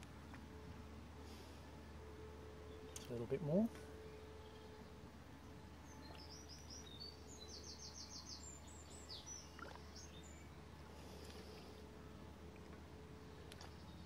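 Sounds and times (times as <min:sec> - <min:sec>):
songbird chirps and trills: 0:00.0 - 0:14.0.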